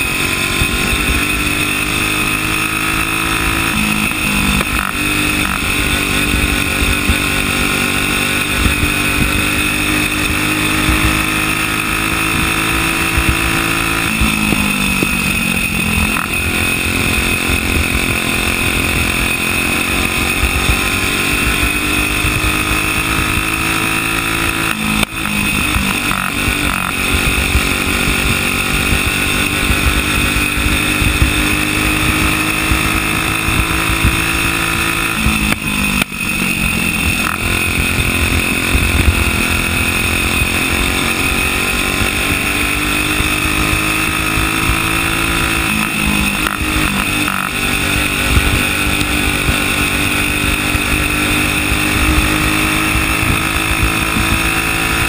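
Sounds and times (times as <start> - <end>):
kart engine at high revs: 0.0 - 55.0.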